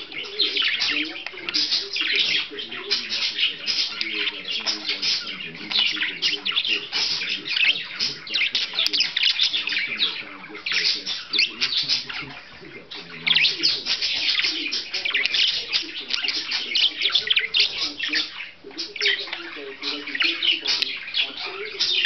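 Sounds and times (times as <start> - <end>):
budgerigar warbling and chattering: 0.0 - 22.0.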